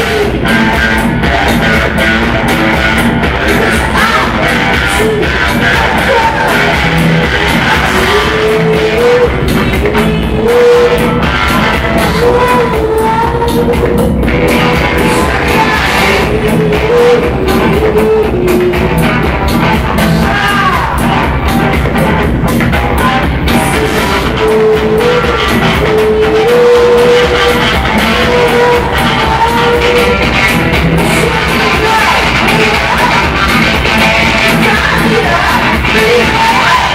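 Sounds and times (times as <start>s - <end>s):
bass guitar: 0.0s - 36.9s
electric guitar: 0.0s - 36.9s
live rock band playing: 0.0s - 36.9s
woman singing: 3.4s - 19.1s, 20.0s - 21.3s, 22.9s - 36.9s.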